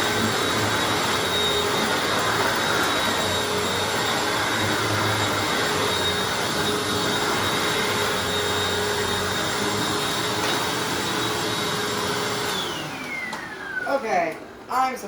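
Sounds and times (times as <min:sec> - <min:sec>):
vacuum motor spinning down: 0:00.0 - 0:14.0
upright vacuum running: 0:00.0 - 0:14.7.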